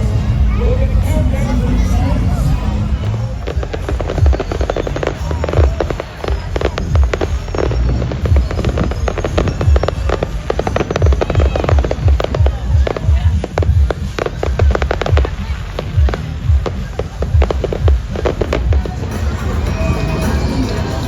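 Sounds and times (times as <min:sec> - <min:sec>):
deep booming thumps: 0:00.0 - 0:20.0
music playing: 0:00.0 - 0:21.0
fireworks banging and crackling: 0:01.9 - 0:21.0.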